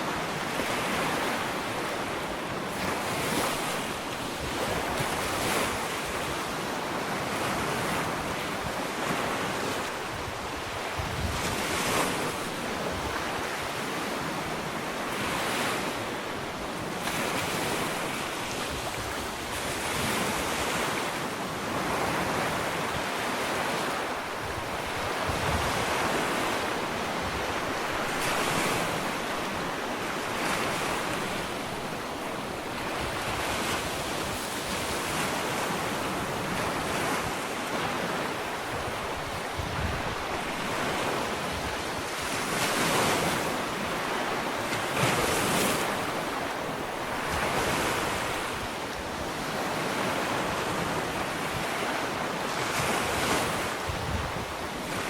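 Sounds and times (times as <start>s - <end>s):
ocean waves lapping on beach: 0.0s - 55.0s.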